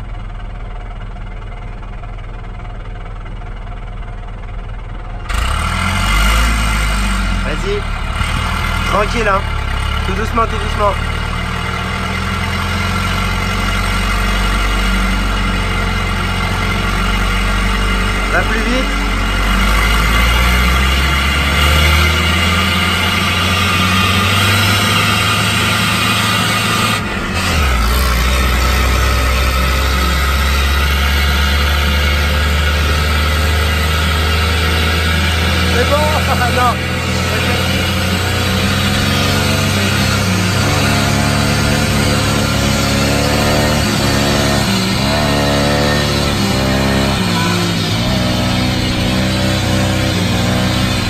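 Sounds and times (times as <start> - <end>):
dirt bike engine: 0.0 - 51.0.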